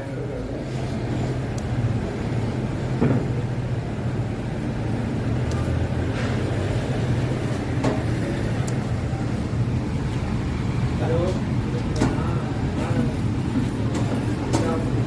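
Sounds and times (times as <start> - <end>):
low mechanical motor hum: 0.0 - 15.0.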